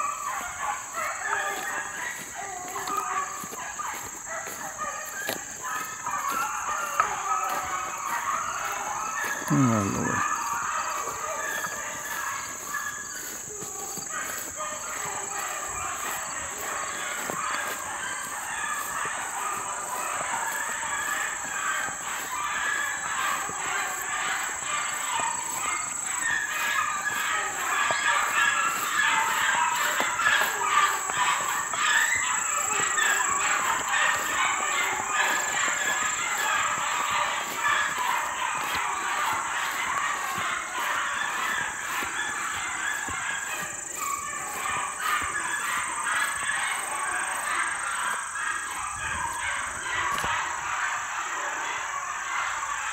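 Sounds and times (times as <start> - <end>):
pack of dogs baying: 0.0 - 52.9.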